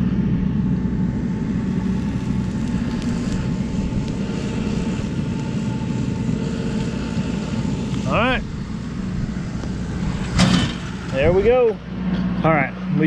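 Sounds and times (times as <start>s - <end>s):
machine drone: 0.0s - 13.0s
molten metal crackling on ground: 0.0s - 13.0s.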